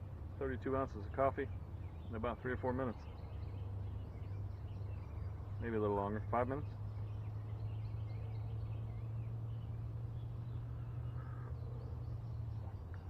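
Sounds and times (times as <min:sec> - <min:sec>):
birds calling faintly: 0:00.0 - 0:13.0.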